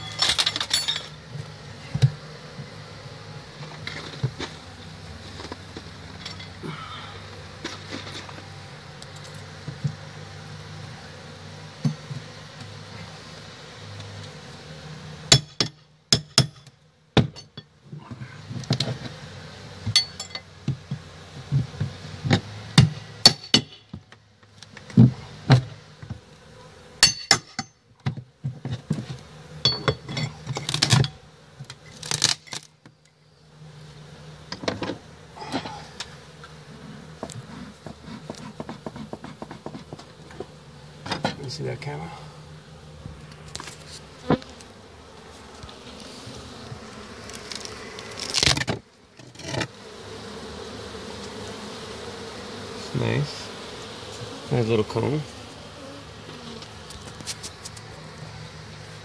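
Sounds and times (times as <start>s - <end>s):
honey bees buzzing: 0.0s - 59.0s.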